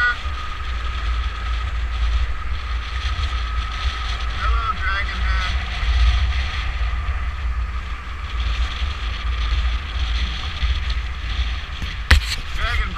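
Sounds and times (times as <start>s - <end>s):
motorcycle engine hum: 0.0s - 12.9s
road traffic: 0.0s - 12.9s
wind buffeting microphone: 0.0s - 12.9s.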